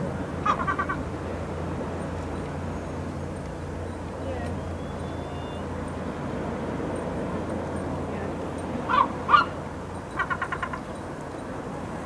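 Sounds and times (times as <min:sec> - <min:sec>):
shorebirds calling: 0:00.0 - 0:12.0.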